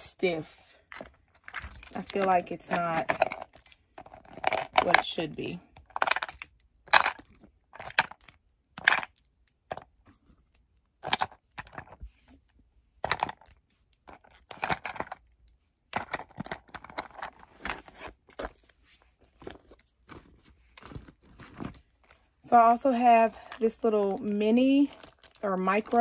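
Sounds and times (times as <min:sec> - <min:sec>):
pouch hardware clicking and jingling: 0:00.8 - 0:09.9, 0:14.0 - 0:26.0.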